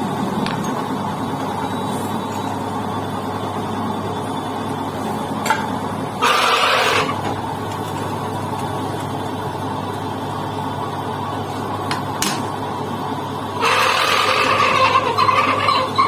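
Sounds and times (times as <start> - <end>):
lathe humming: 0.0 - 11.8, 12.6 - 16.0.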